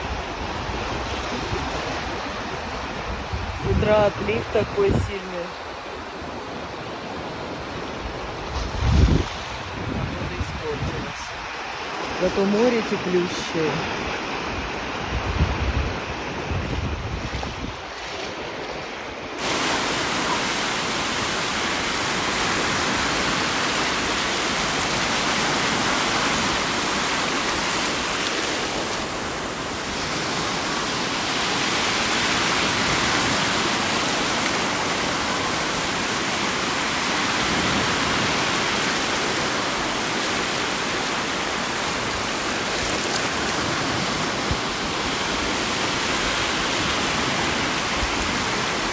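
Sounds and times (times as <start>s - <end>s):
storm waves breaking on beach: 0.0s - 48.9s.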